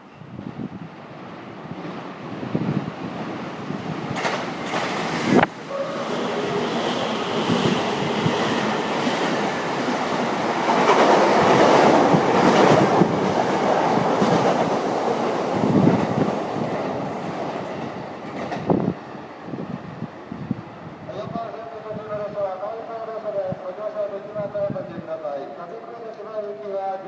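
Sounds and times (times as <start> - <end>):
electric train passing: 0.2 - 26.7.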